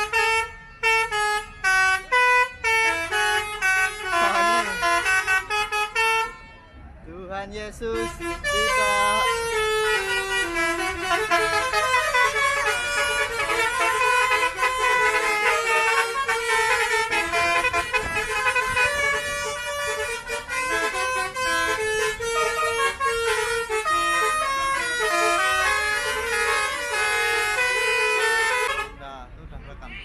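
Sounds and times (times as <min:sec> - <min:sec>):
multi-tone bus air horns: 0:00.0 - 0:07.0, 0:07.8 - 0:29.0, 0:29.8 - 0:30.0.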